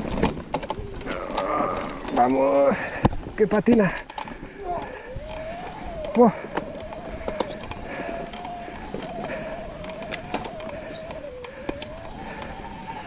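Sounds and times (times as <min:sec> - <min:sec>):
electric bike motor whining: 0:00.0 - 0:03.1, 0:04.1 - 0:13.0
bike rattling over rocks: 0:00.0 - 0:13.0.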